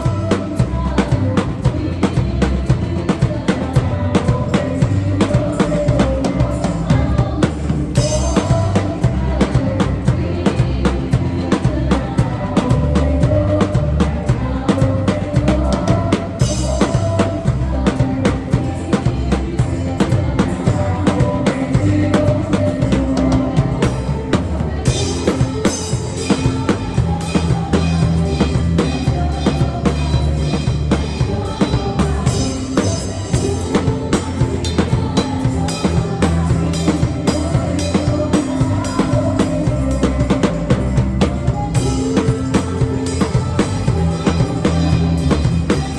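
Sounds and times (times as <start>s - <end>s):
drum kit playing a groove: 0.0s - 45.9s
worship band music: 0.0s - 45.9s.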